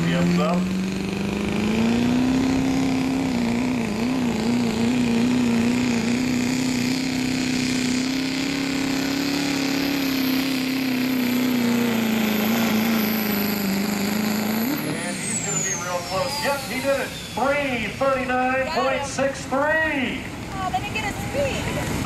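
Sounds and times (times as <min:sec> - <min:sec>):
diesel truck engine revving under load: 0:00.0 - 0:22.0.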